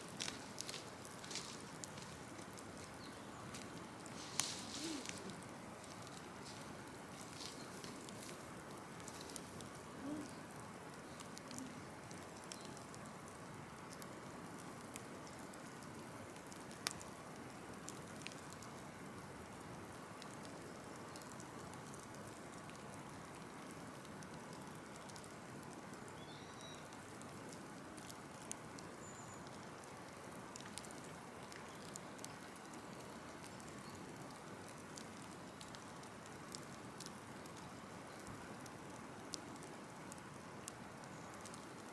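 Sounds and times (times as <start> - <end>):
fire crackling with pops: 0.0 - 41.9.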